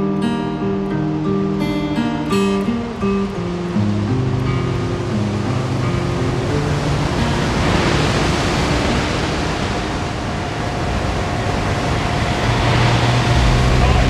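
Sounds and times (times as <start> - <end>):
guitar music: 0.0 - 14.0
ocean waves breaking: 0.0 - 14.0.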